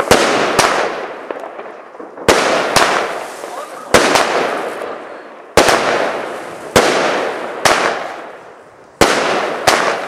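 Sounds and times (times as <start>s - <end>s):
firework bangs: 0.0s - 10.0s.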